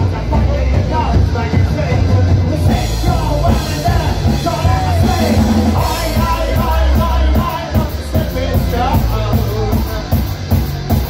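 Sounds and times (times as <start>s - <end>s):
person singing and shouting: 0.0s - 10.3s
punk rock band playing: 0.0s - 11.0s.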